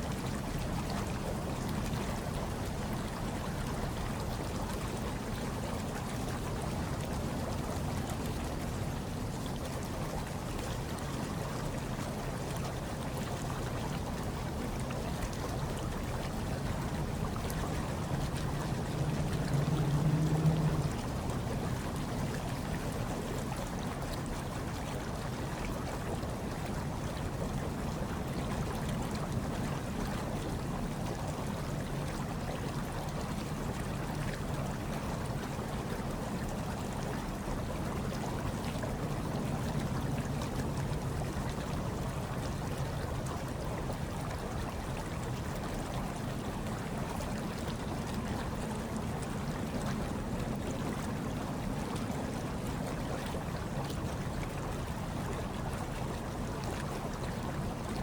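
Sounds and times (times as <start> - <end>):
hot tub water churning: 0.0 - 58.0.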